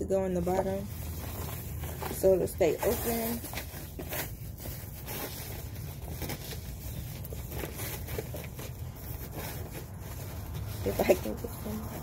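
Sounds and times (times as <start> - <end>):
fabric bag rustling: 0.2 - 12.0.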